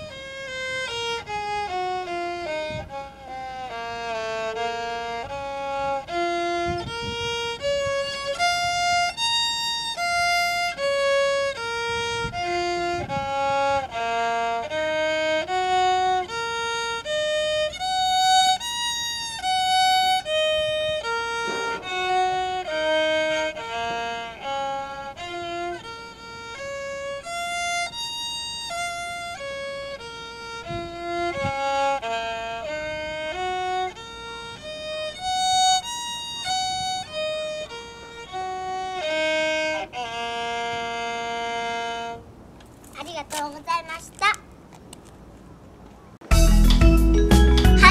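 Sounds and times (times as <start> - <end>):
violin playing scale: 0.0 - 42.5, 46.2 - 47.9.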